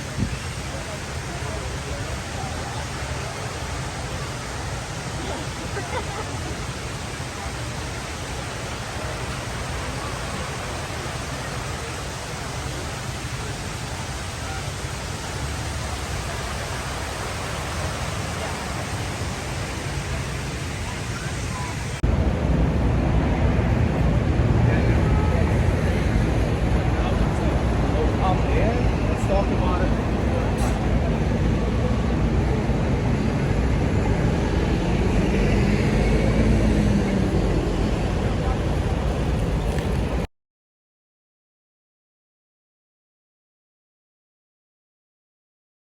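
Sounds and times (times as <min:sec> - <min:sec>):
city noise: 0:00.0 - 0:40.3
vehicle engine hum: 0:00.0 - 0:40.3
water cascading down walls: 0:00.0 - 0:40.3.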